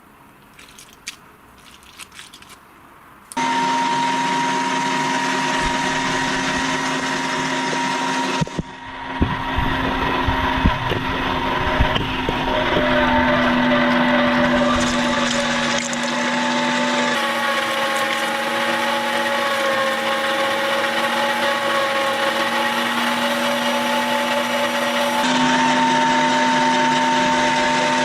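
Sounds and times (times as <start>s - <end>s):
meat grinder motor humming: 3.4s - 28.0s.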